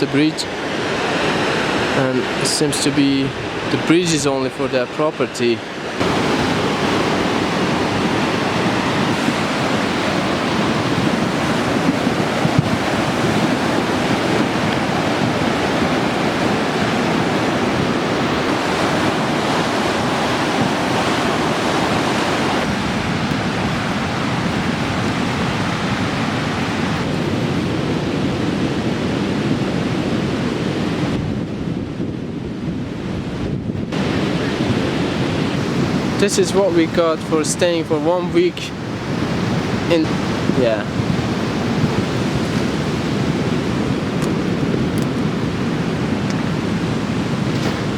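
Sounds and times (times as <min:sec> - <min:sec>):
river rushing over rocks: 0:00.0 - 0:28.6, 0:34.0 - 0:47.9.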